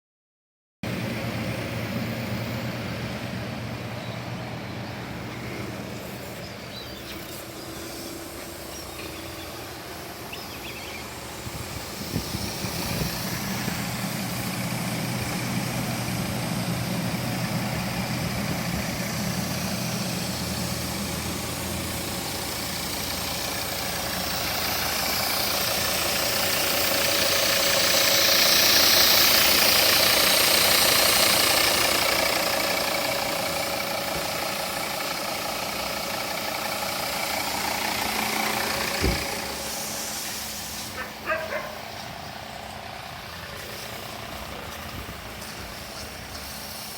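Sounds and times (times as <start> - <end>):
car engine idling: 0.8 - 46.9
rising hiss: 5.0 - 46.9.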